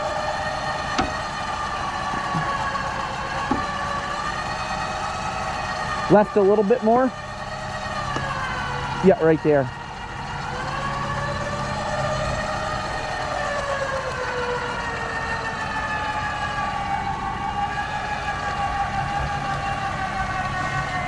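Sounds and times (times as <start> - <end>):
low engine drone: 0.0 - 21.0.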